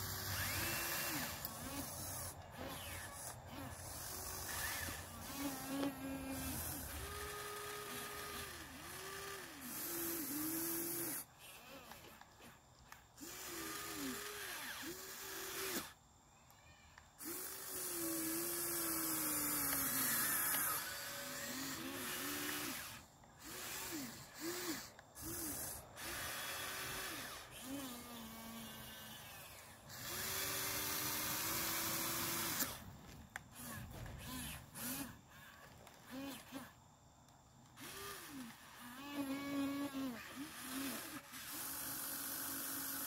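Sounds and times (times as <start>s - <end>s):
electric motors whining: 0.0s - 43.0s.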